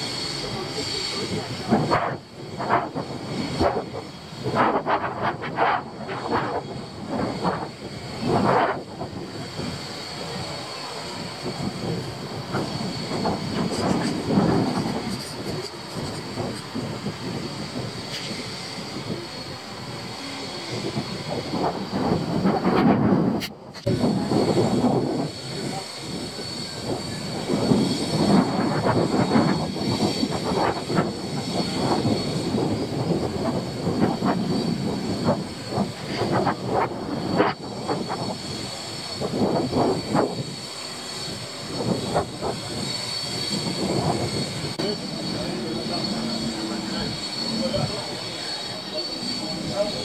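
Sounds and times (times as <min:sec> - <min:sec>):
wind rumbling on microphone: 0:00.0 - 0:50.0.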